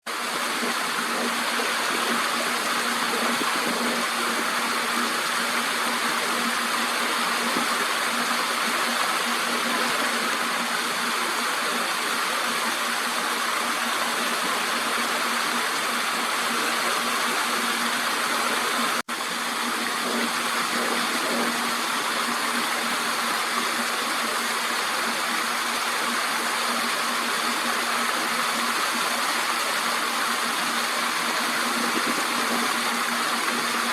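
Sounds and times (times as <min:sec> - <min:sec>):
steady mechanical hum: 0:00.1 - 0:33.9.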